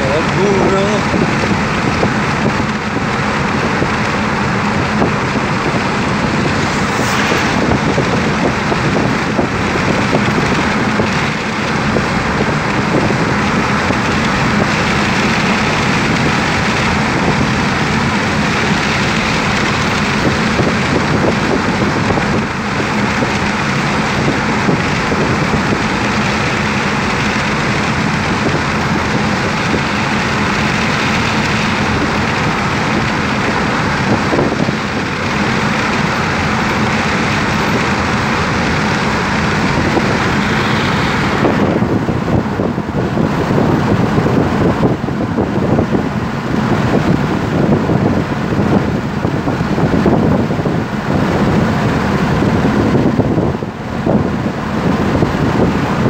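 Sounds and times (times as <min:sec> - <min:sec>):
car engine: 0:00.0 - 0:56.0
tyres on asphalt: 0:00.0 - 0:56.0
wind noise: 0:00.0 - 0:56.0.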